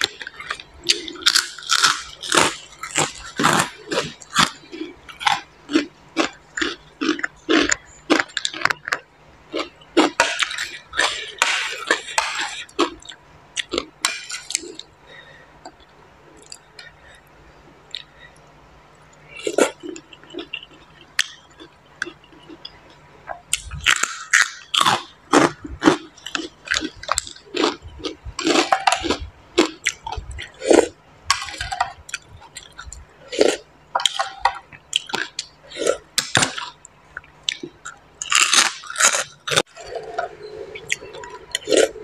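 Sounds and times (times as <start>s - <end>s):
person chewing crisp food: 0.0s - 42.0s.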